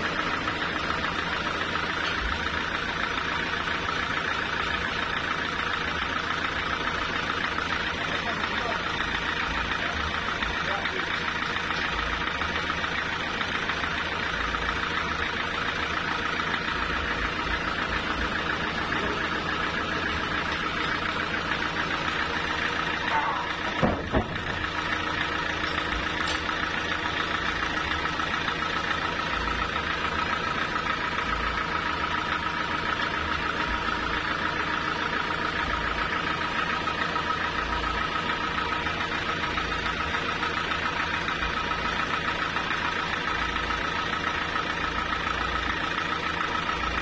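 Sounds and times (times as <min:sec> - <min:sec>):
sawmill engine and saw running: 0:00.0 - 0:47.0.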